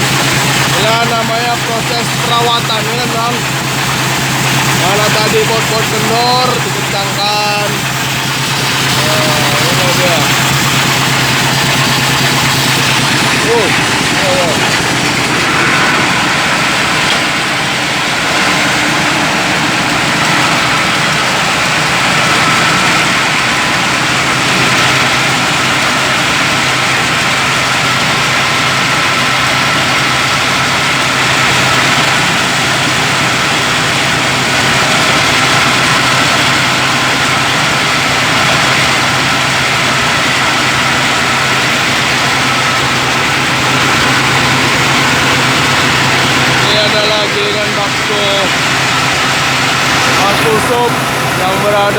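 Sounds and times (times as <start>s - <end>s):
grinding machine motor humming and rattling: 0.0s - 51.9s.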